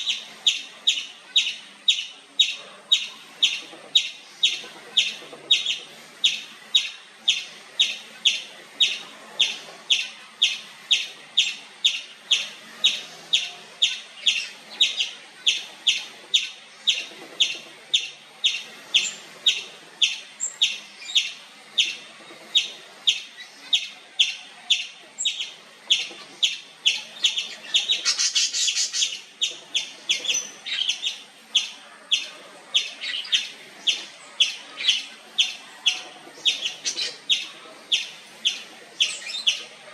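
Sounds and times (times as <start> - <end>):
squirrel chirping: 0.0 - 39.9.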